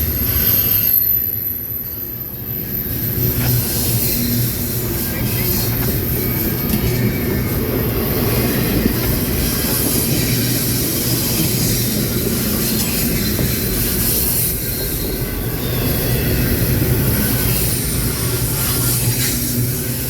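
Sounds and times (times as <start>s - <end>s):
railroad cars rumbling on rails: 0.0s - 20.0s.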